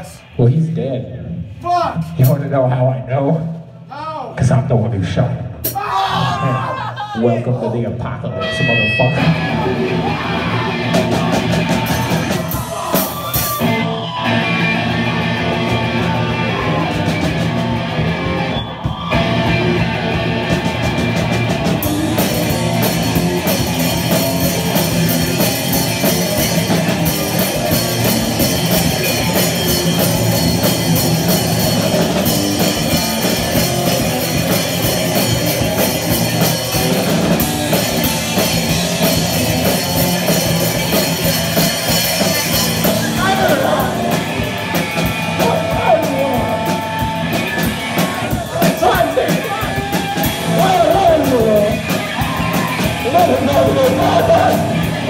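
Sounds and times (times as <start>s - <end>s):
drum kit with cymbals: 5.5s - 6.4s, 8.7s - 55.0s
distorted electric guitar: 8.3s - 55.0s.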